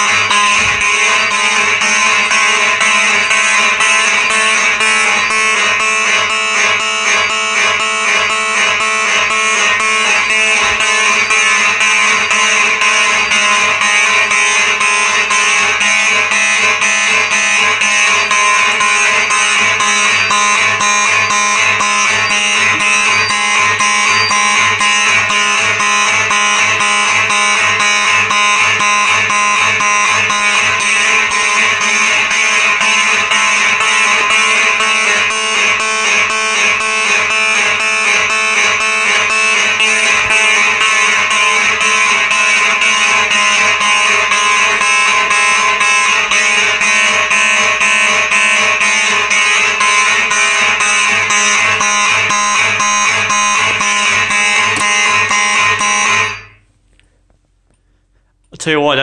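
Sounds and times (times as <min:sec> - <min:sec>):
fire alarm horns pulsing: 0:00.0 - 0:59.0.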